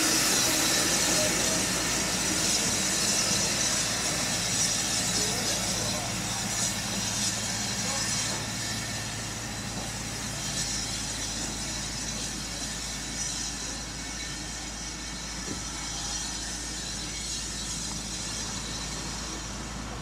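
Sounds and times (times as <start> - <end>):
locomotive steam hissing: 0.0 - 20.0.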